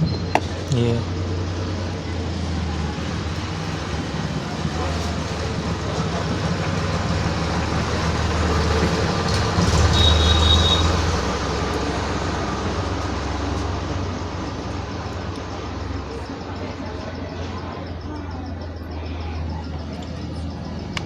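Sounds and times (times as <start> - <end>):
road traffic rumble: 0.0 - 21.0
vehicle passing: 0.4 - 21.0.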